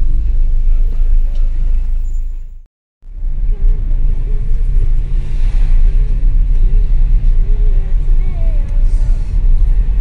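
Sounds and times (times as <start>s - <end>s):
car interior road rumble: 0.0s - 10.0s.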